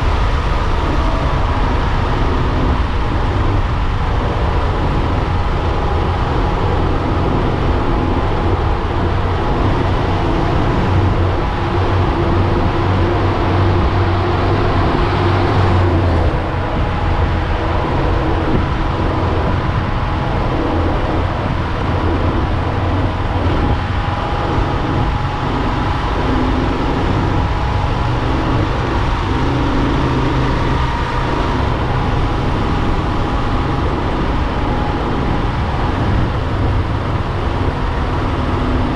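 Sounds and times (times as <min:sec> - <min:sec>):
vehicle engine hum: 0:00.0 - 0:38.9.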